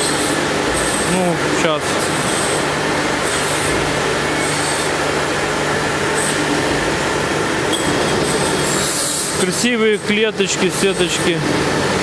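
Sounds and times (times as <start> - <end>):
workshop machine rushing: 0.0 - 12.0.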